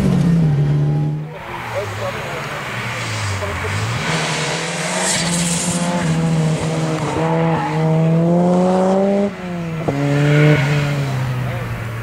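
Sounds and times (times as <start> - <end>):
turbocharged car engine accelerating: 0.0 - 12.0.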